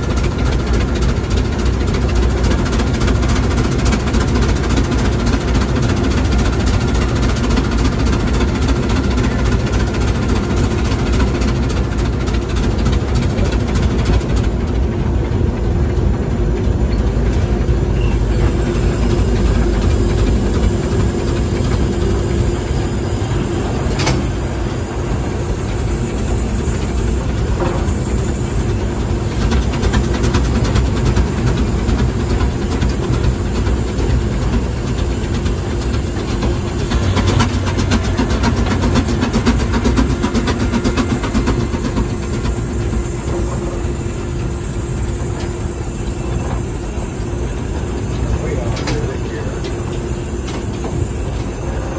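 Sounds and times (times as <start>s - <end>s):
steam locomotive running noise: 0.0s - 51.9s.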